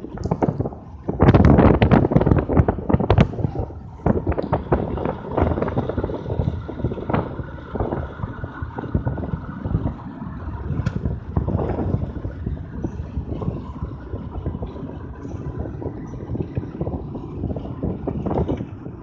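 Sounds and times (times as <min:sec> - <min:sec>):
crackles and knocks: 0:00.0 - 0:19.0
wind buffeting microphone: 0:00.0 - 0:19.0.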